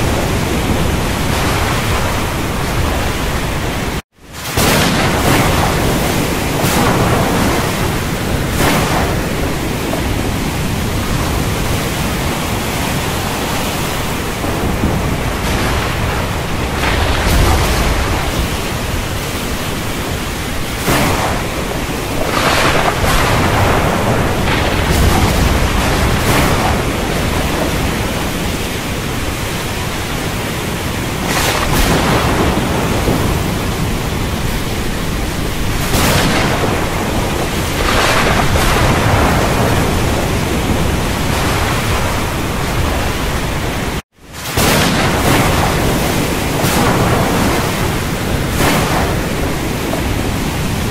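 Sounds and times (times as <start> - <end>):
thunder rumbling: 0.0 - 50.9.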